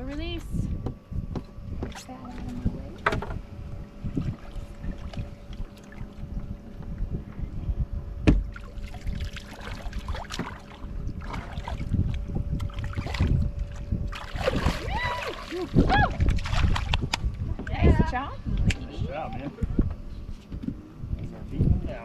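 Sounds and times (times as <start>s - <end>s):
faint steady hum: 0.0s - 22.0s
wind buffeting microphone: 0.0s - 22.0s.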